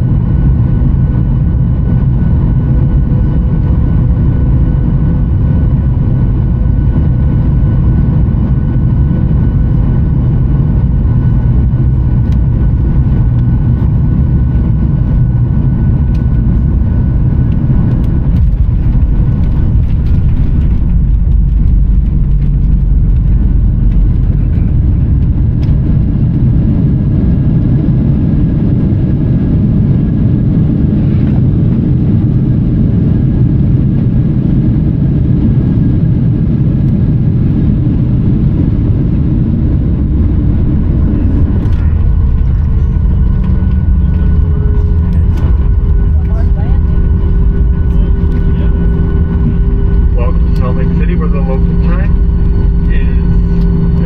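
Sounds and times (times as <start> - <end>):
faint steady engine tones: 0.0 - 54.0
low rumble of engines and airflow: 0.0 - 54.0.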